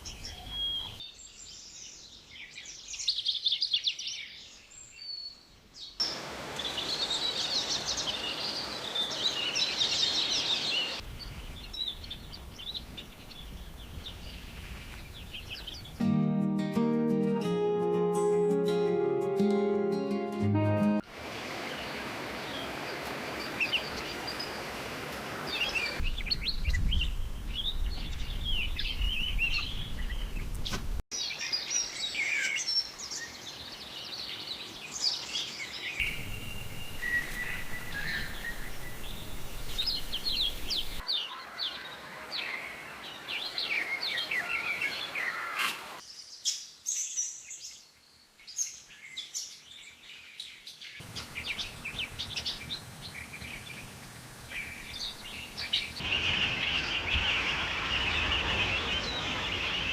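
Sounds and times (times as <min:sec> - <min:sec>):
birds chirping and trilling: 0:00.0 - 0:16.1, 0:21.7 - 0:59.9.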